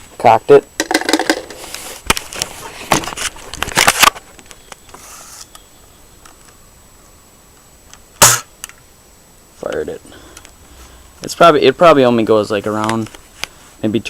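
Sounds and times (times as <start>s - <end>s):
low steady background: 0.0s - 14.0s.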